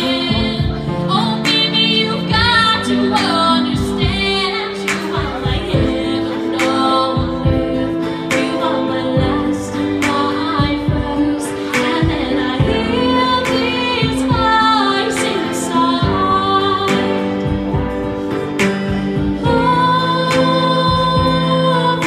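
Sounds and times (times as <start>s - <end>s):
instrumental accompaniment: 0.0s - 22.0s
woman singing into microphone: 0.0s - 22.0s.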